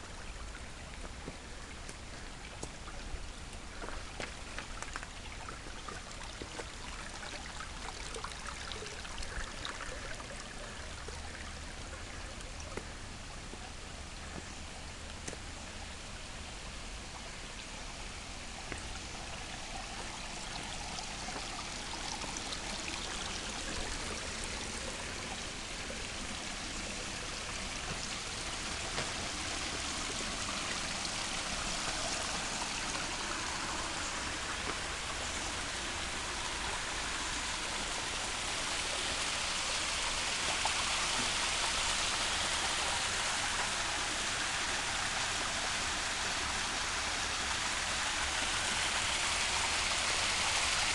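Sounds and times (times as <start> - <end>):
running water rushing: 0.0 - 50.9.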